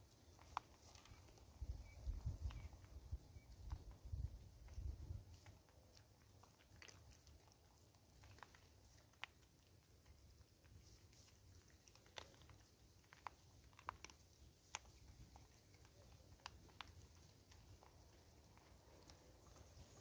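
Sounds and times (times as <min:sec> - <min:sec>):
monkeys chewing maize kernels: 0:00.0 - 0:20.0.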